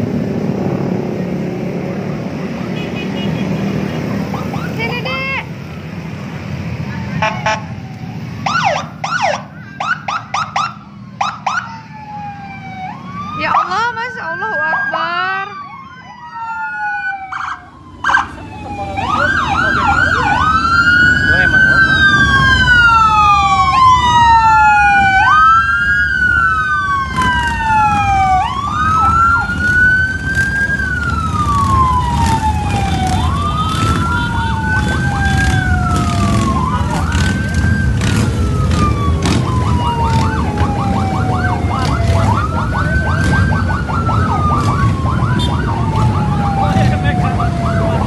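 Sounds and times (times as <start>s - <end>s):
emergency sirens wailing: 0.0s - 48.0s
motorcycles rumbling: 0.0s - 48.0s.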